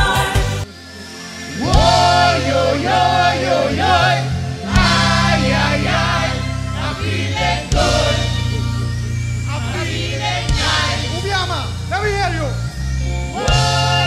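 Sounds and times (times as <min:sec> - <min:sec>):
group of singers: 0:00.0 - 0:11.7, 0:13.1 - 0:14.0
soca band playing: 0:01.6 - 0:12.4, 0:13.3 - 0:14.0.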